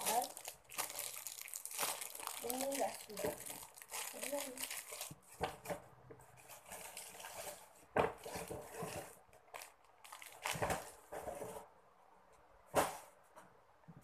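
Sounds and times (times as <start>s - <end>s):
plastic and paper crinkling: 0.0s - 11.7s.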